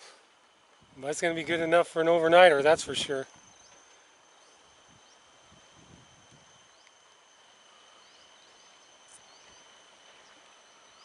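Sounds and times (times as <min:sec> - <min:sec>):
steady high-pitched drone: 0:00.0 - 0:11.0.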